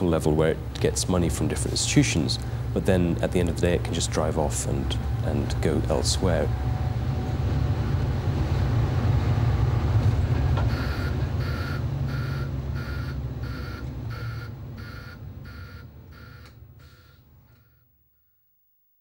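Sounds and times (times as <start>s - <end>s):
coach diesel engine rumbling: 0.0s - 17.6s.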